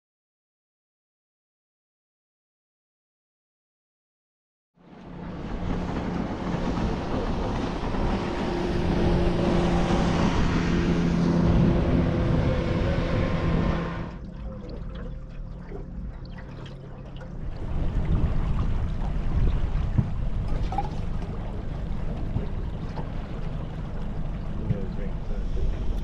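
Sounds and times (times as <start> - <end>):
boat motor running: 4.8 - 26.0
water rushing: 5.0 - 26.0.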